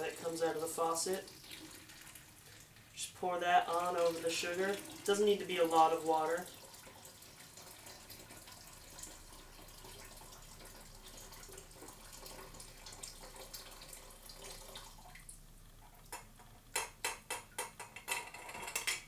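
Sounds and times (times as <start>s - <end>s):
water pouring into a pitcher: 0.0s - 16.0s.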